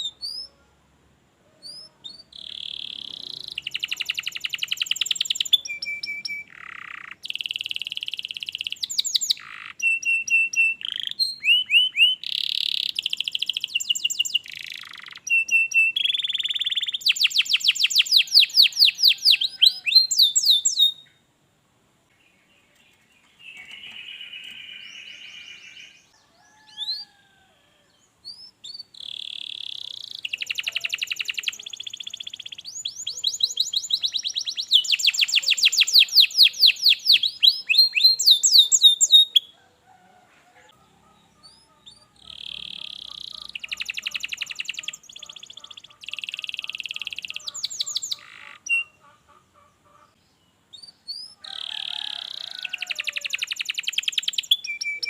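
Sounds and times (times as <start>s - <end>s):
canary singing trills: 0.0s - 0.6s, 1.5s - 21.2s, 22.6s - 27.4s, 28.2s - 39.6s, 40.6s - 55.0s.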